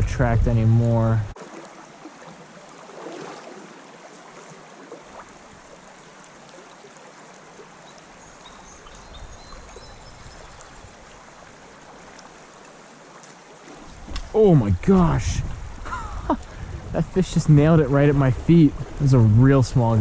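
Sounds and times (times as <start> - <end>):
stream water flowing: 0.8 - 20.0.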